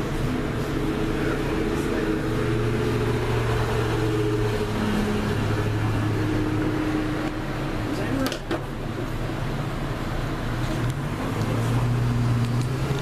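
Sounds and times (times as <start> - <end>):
faint shifting tones: 0.0 - 13.0
low mechanical hum: 0.0 - 13.0.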